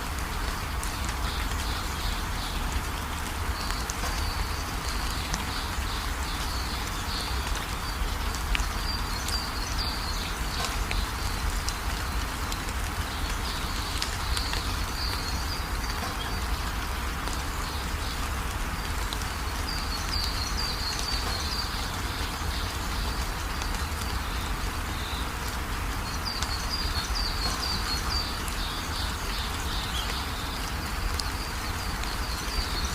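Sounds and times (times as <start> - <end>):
small birds chirping: 0.7 - 32.9.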